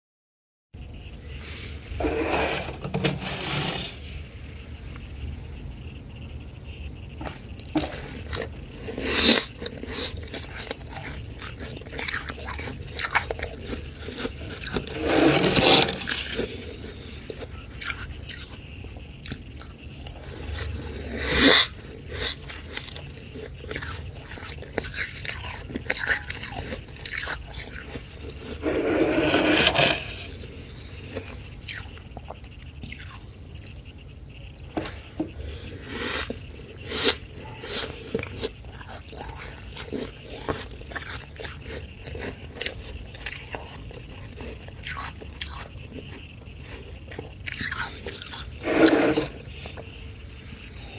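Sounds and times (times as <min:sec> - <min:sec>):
crunching and chewing frost: 0:07.1 - 0:50.9.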